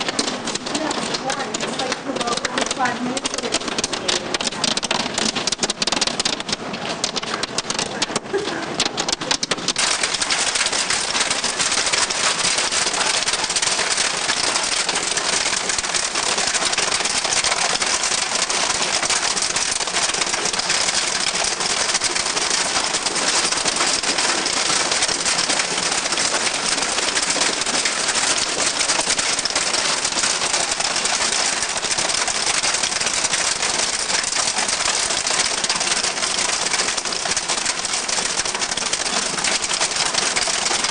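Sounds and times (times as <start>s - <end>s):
hail pelting down: 0.0s - 40.9s
hailstones clicking nearby: 0.0s - 40.9s.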